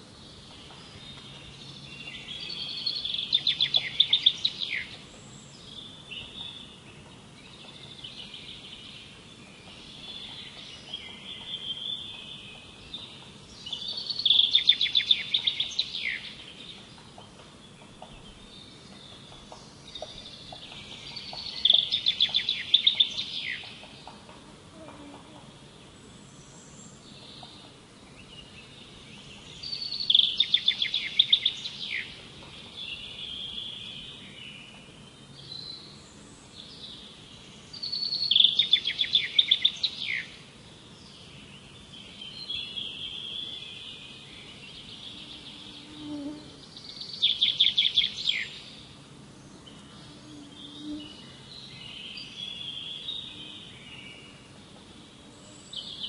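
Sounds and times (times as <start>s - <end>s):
songbird loud song phrase: 0.0s - 56.0s
soft bird chirps: 0.2s - 25.3s, 26.3s - 54.5s.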